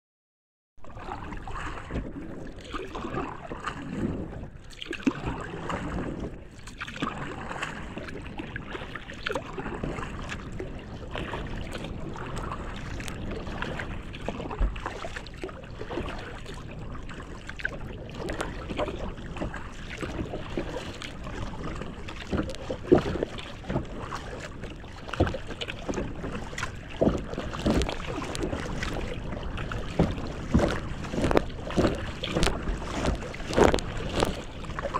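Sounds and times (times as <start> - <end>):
water splashing against kayak hull: 0.8 - 34.9.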